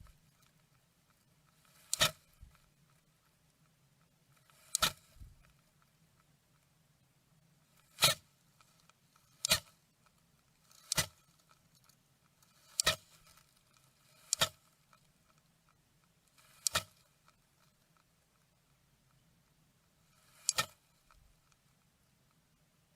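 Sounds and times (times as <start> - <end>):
faint low hum: 0.0 - 22.9.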